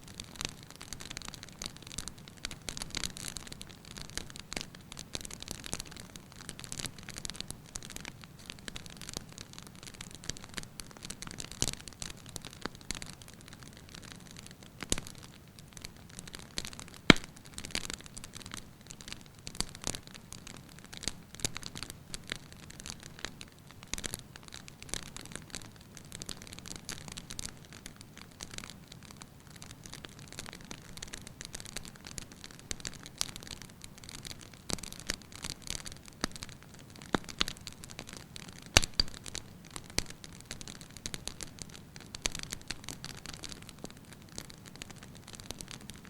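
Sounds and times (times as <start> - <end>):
soft steady hiss: 0.0 - 46.0
firewood crackling and popping: 0.1 - 46.0.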